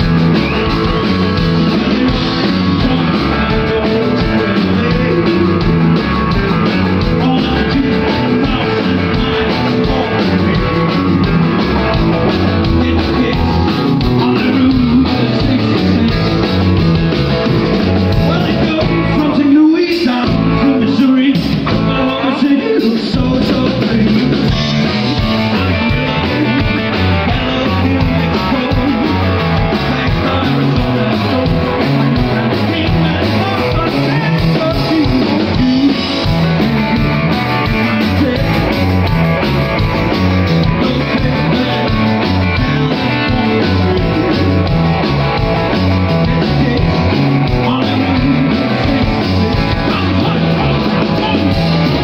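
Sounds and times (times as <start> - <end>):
drum kit: 0.0 - 52.0
electric guitar: 0.0 - 52.0
person singing: 0.0 - 52.0.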